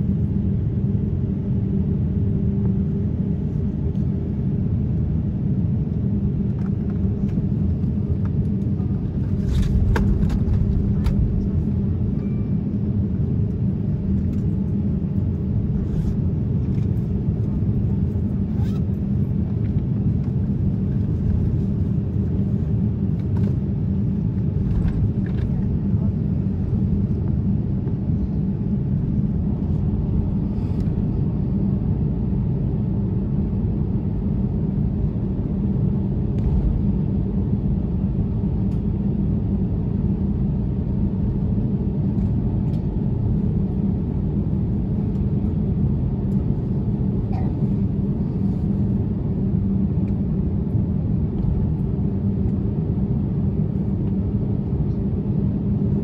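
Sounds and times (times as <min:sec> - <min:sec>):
aircraft cabin rumble: 0:00.0 - 0:56.0
jet engines idling hum: 0:00.0 - 0:56.0.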